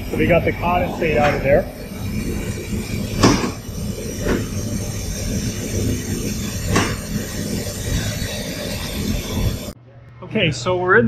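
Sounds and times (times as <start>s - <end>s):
valve knocks: 0.0s - 9.7s
boiler room rumble and hiss: 0.0s - 11.0s.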